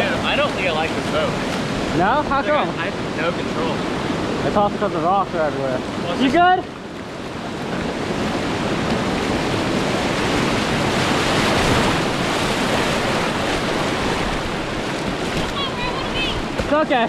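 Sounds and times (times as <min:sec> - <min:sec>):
whitewater rushing over rocks: 0:00.0 - 0:17.0.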